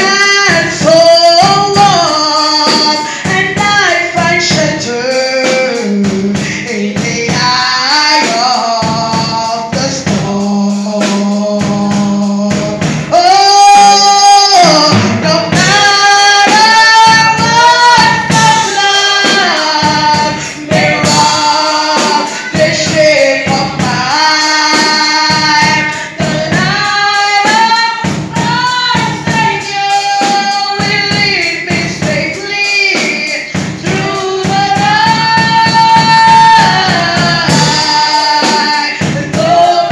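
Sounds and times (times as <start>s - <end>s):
gospel choir singing: 0.0s - 39.9s
rhythmic percussion beat: 0.0s - 39.9s.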